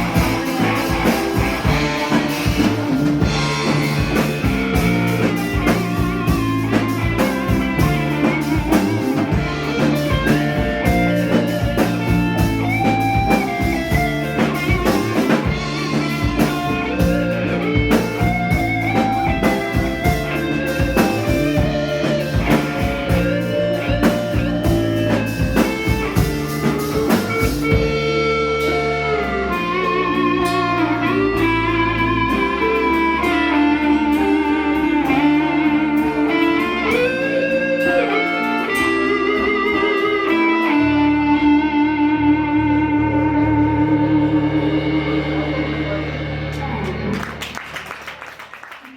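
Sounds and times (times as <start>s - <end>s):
drum kit: 0.0s - 48.9s
guitar: 0.0s - 48.9s.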